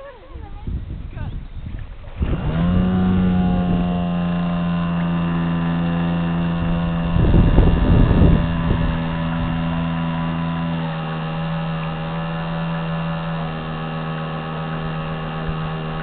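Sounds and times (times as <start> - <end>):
model boat motor whine: 0.0 - 16.0
rough water noise: 0.0 - 16.0.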